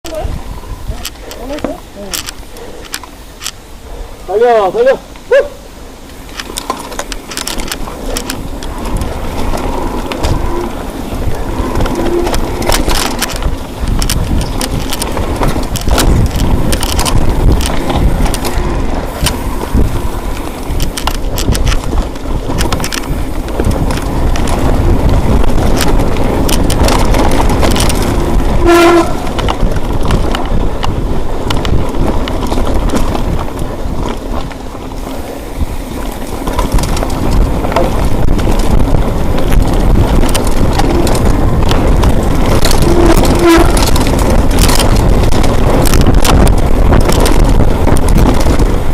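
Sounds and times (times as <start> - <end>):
wind rumbling on microphone: 0.0 - 48.9.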